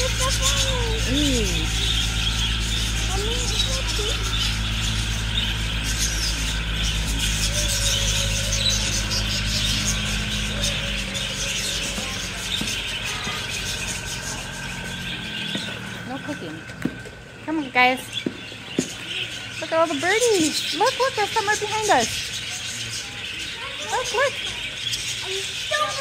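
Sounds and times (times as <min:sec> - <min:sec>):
budgerigars chattering and chirping: 0:00.0 - 0:26.0
low machine hum: 0:00.0 - 0:26.0.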